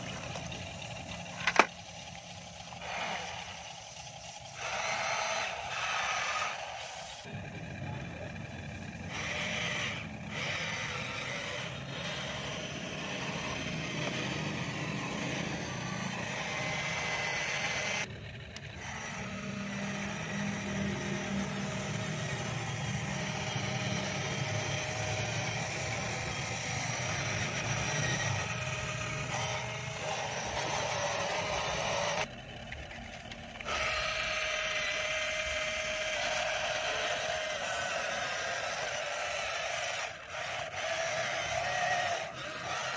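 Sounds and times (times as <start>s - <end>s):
model excavator motors whining: 0.0s - 42.9s.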